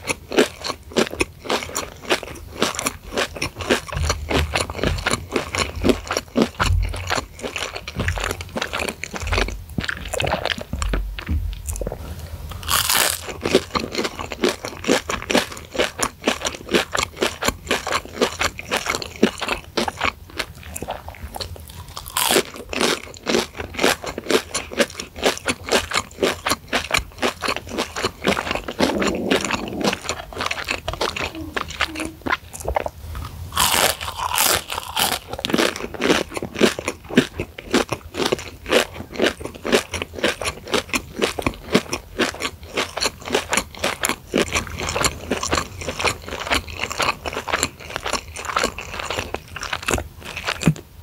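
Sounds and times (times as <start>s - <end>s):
crisp crunching chews: 0.0s - 50.9s.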